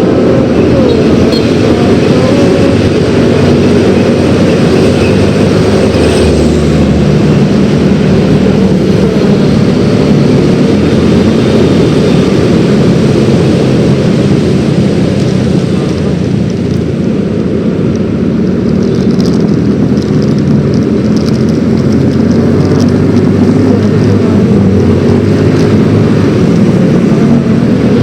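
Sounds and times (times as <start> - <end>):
road noise: 0.0 - 28.0
scooter engine running: 0.0 - 28.0
wind rushing: 0.0 - 28.0.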